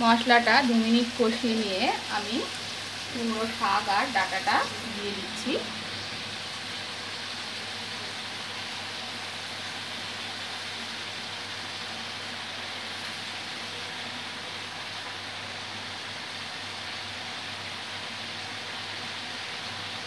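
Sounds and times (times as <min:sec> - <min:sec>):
leaves frying in hot oil: 0:00.0 - 0:20.0.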